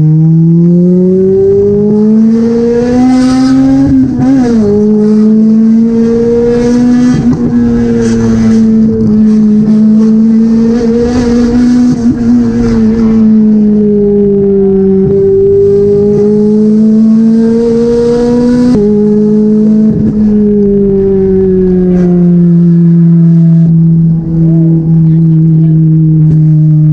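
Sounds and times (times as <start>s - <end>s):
car engine accelerating: 0.0s - 26.9s.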